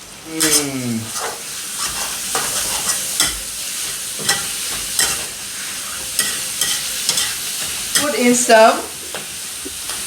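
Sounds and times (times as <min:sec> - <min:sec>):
food sizzling in hot oil: 0:00.0 - 0:10.0
spatula scraping pan: 0:00.4 - 0:09.3.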